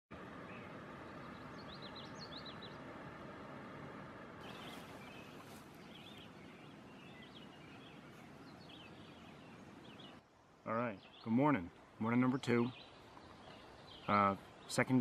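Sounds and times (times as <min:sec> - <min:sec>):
steady background hiss: 0:00.2 - 0:15.0
small birds chirping and singing: 0:00.5 - 0:02.8, 0:04.4 - 0:15.0.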